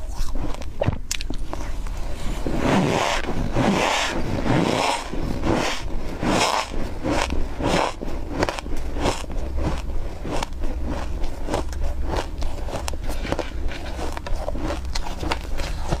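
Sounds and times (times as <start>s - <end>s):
frost being chewed crunching: 0.0s - 2.0s, 2.6s - 16.0s
steady low hum: 0.0s - 16.0s.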